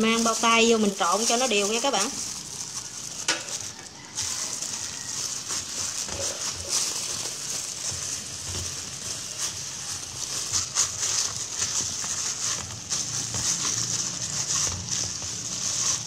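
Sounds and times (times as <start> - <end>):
dough squishing: 0.0 - 16.0
plastic glove crinkling: 0.0 - 16.0.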